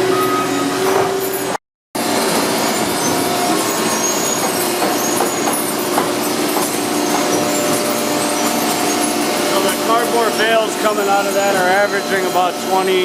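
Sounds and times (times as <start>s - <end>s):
baling machine humming: 0.0s - 13.0s.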